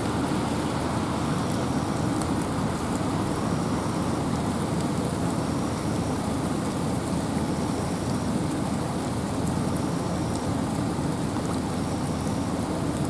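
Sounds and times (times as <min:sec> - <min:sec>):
rain drops ticking: 0:00.0 - 0:13.0
wind in forest: 0:00.0 - 0:13.0.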